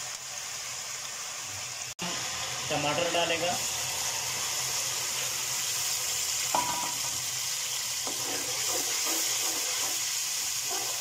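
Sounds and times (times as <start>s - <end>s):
frying sizzle in pan: 0.0s - 11.0s.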